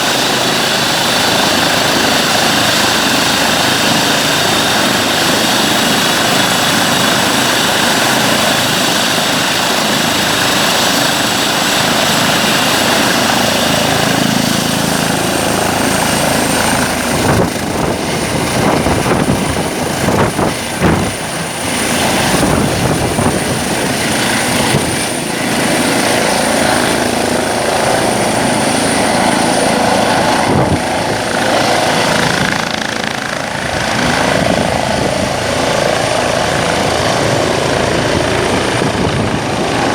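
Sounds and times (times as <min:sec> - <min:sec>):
gusty wind buffeting: 0:00.0 - 0:39.9
helicopter rotor rush: 0:00.0 - 0:39.9
high turbine engine whine: 0:00.0 - 0:39.9.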